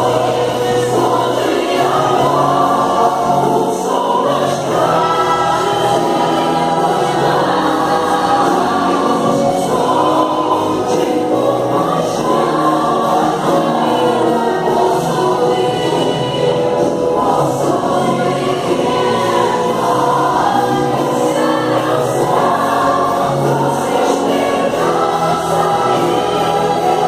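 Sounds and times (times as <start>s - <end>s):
choir singing gospel song: 0.0s - 27.0s.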